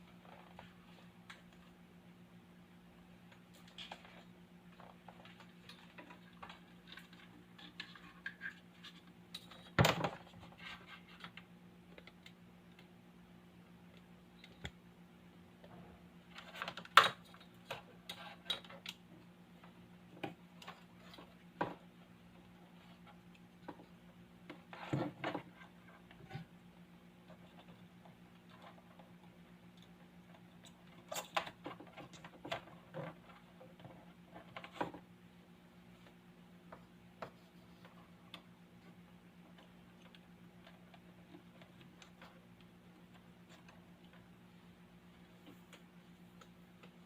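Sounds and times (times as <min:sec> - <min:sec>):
speaker electrical hum: 0:00.0 - 0:47.0.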